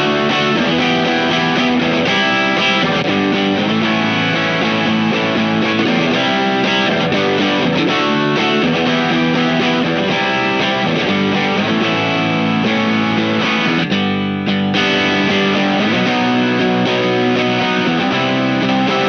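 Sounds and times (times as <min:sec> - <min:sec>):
distorted electric guitar chords: 0:00.0 - 0:19.0.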